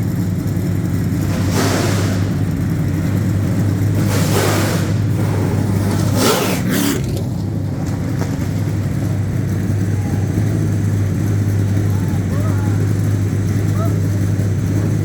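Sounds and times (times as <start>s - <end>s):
car engines idling: 0.0s - 15.0s
cars passing close by: 0.0s - 15.0s.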